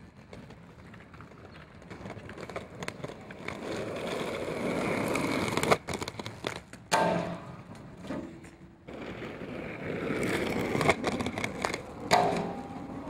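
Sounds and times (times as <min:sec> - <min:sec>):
skate wheels rolling on pavement: 0:00.0 - 0:13.0.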